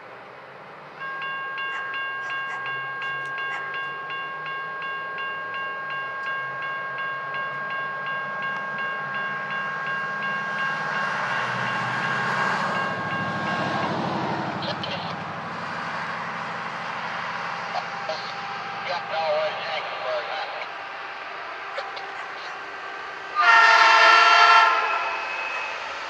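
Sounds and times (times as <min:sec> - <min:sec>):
train rumbling: 0:00.0 - 0:26.0
railroad crossing bell ringing: 0:00.7 - 0:26.0.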